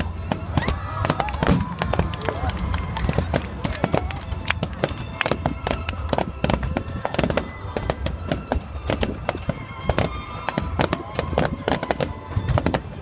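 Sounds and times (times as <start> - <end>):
fireworks popping and banging: 0.0 - 13.0
music playing: 0.0 - 13.0.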